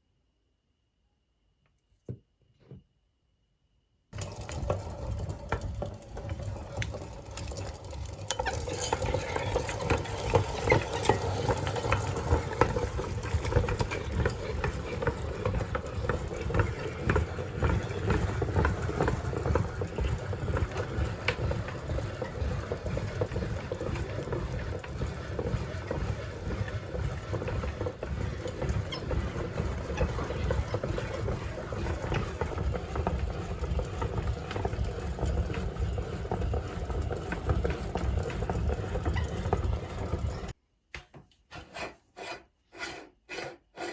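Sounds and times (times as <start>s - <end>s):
meat grinder running: 4.2s - 40.5s.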